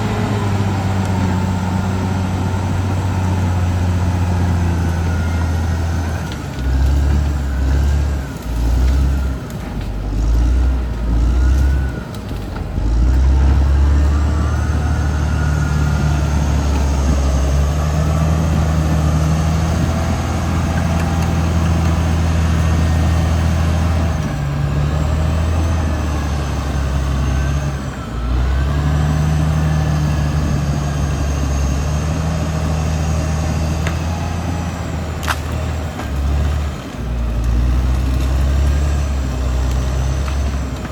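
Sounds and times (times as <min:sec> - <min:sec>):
bulldozer diesel engine: 0:00.0 - 0:40.9.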